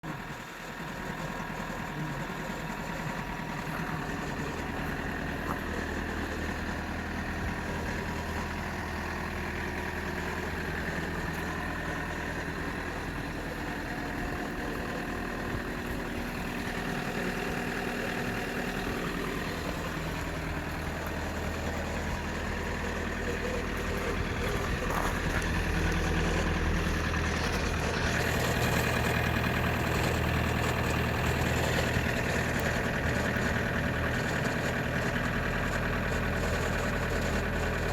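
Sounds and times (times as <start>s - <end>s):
diesel engine idling: 0.0s - 37.9s
strange engine noise: 0.0s - 37.9s.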